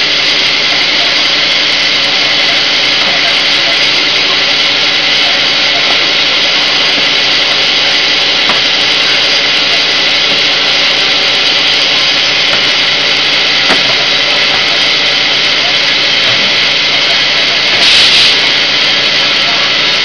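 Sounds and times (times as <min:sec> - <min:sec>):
machine running steadily: 0:00.0 - 0:20.0.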